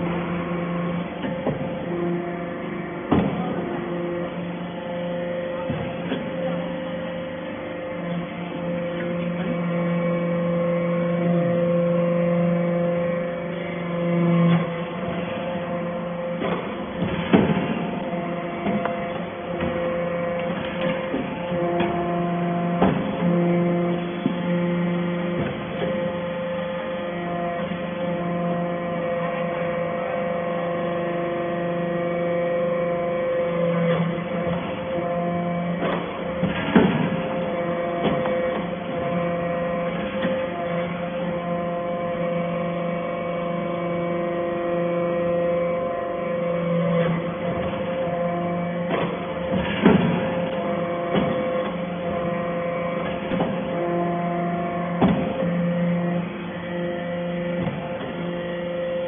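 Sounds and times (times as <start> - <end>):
hydraulic baler humming: 0.0 - 59.0.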